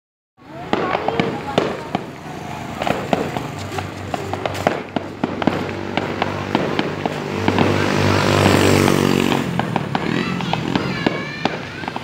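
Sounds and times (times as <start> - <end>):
fireworks popping and crackling: 0.4 - 12.0.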